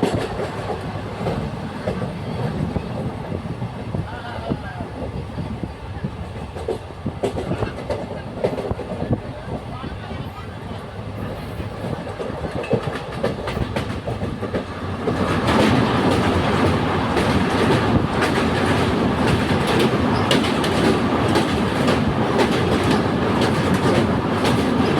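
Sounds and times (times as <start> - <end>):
train wheels clattering over rail joints: 0.0 - 4.1, 4.8 - 9.7, 11.5 - 24.9.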